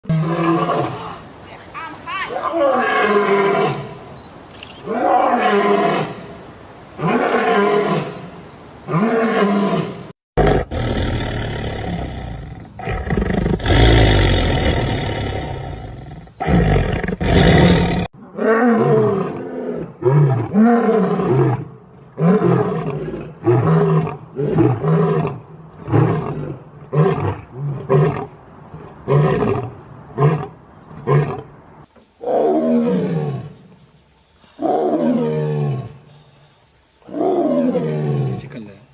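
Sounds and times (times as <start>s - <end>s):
rough continuous noise: 0.0s - 38.9s.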